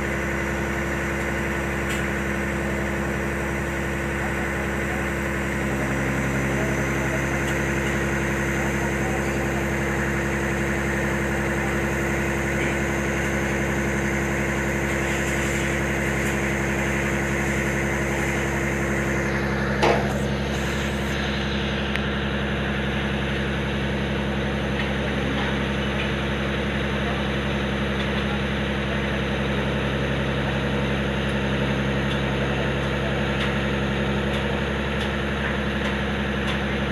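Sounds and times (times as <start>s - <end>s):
truck engine running steadily: 0.0s - 36.9s.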